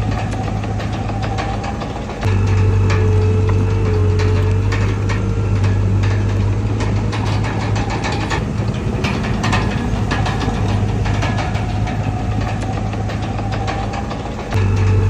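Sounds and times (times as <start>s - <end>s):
bulldozer engine droning: 0.0s - 15.0s
metal clanks and knocks: 0.0s - 15.0s.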